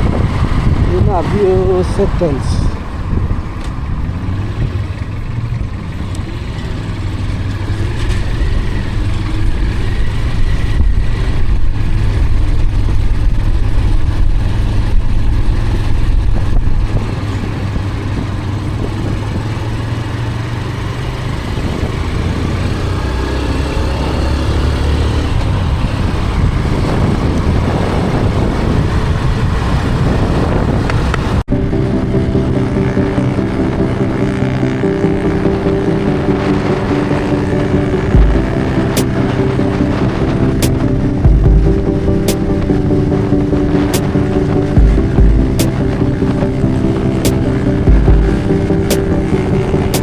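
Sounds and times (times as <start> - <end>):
road and engine rumble: 0.0 - 50.0.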